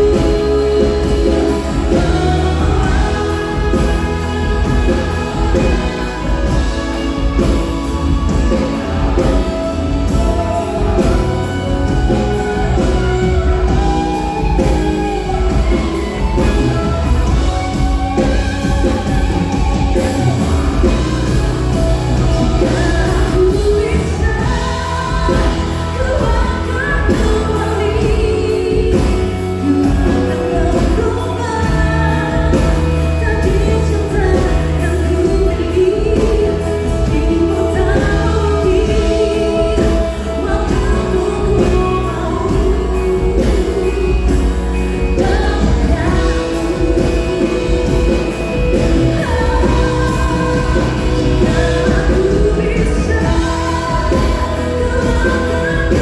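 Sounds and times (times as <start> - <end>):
bass: 0.0 - 56.0
person singing: 0.0 - 56.0.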